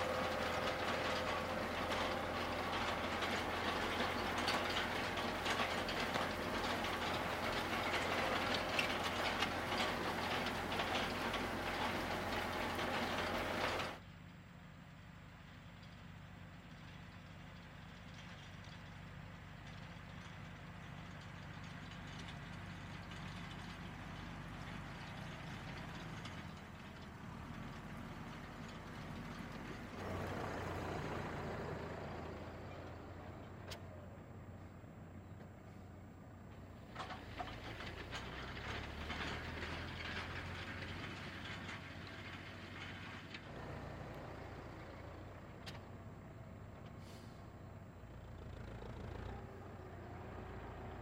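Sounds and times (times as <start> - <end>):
disc harrow crackling rattle: 0.0 - 14.0, 16.8 - 51.0
tractor diesel engine hum: 0.0 - 51.0.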